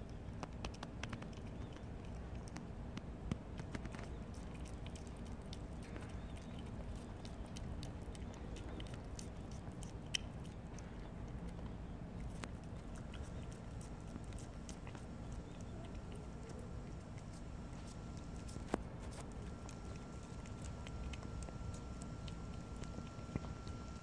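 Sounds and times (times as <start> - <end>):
cat chewing wet food: 0.0 - 24.0.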